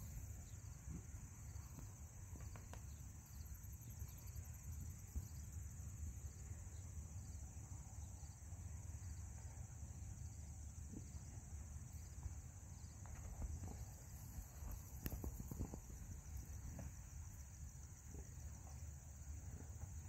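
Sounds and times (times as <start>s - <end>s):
crickets and insects chirring: 0.0s - 20.0s.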